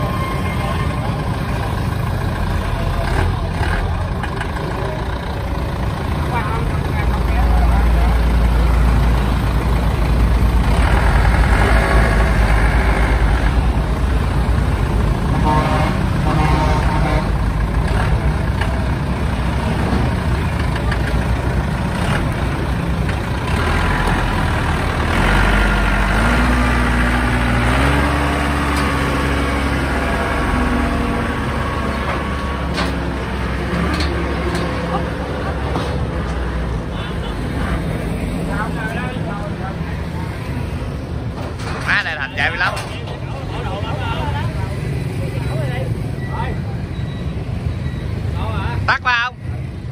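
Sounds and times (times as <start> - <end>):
tractor diesel engine running: 0.0 - 48.4.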